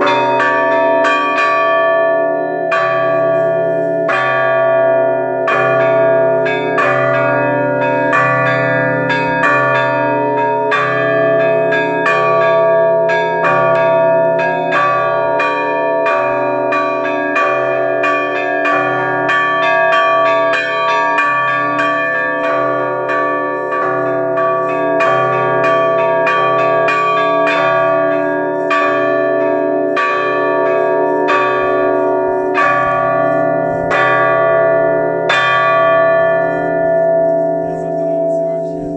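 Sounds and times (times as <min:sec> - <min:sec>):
large cracked church bell: 0:00.0 - 0:38.9
smaller bells ringing quickly: 0:00.0 - 0:38.9.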